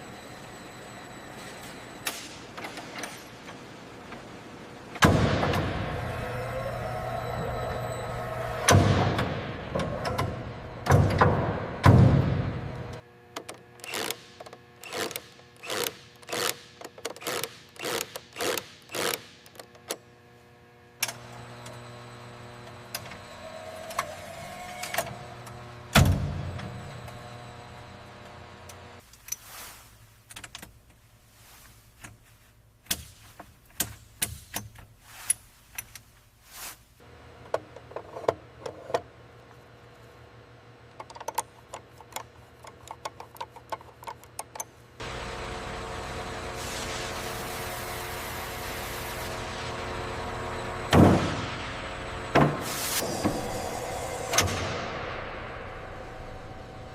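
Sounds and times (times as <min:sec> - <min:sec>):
steady mechanical hum: 0:00.0 - 0:56.9.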